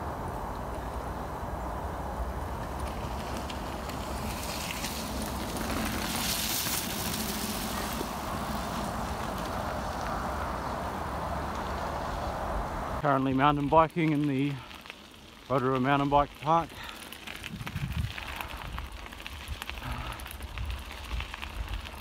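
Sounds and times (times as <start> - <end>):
bike tyres rolling on dirt: 0.0 - 22.0.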